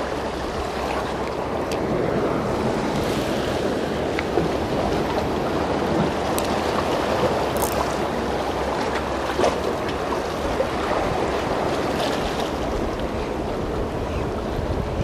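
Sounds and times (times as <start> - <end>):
sea waves washing ashore: 0.0 - 15.0
wind rumbling on microphone: 0.0 - 15.0.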